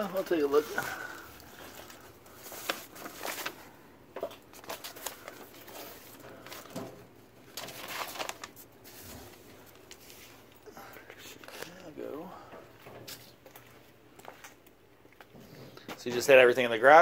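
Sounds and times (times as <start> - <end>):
household items rustling: 0.0 - 14.6.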